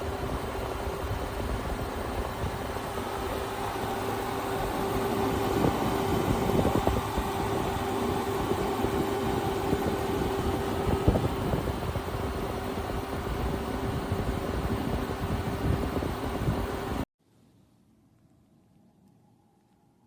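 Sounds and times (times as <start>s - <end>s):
air conditioner fan running: 0.0s - 17.0s.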